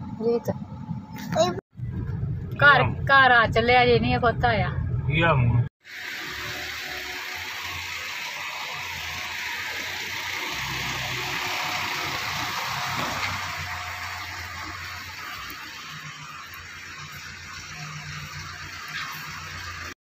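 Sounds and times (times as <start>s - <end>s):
car engine running at low speed: 0.0s - 20.0s.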